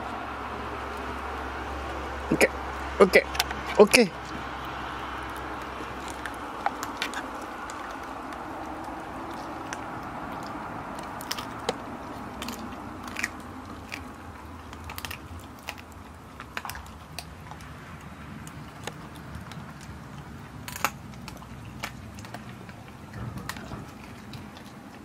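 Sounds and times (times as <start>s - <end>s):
dog chewing and crunching: 0.0s - 25.0s
steady background noise: 0.0s - 25.0s.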